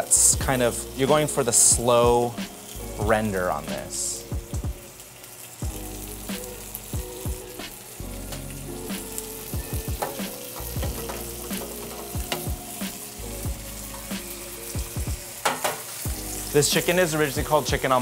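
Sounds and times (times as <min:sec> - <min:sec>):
chicken frying in oil: 0:00.0 - 0:18.0.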